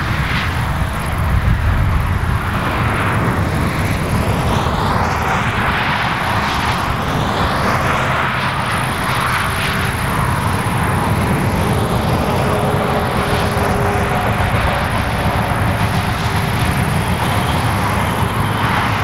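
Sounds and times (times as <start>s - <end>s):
distant motorway traffic rushing: 0.0s - 19.0s.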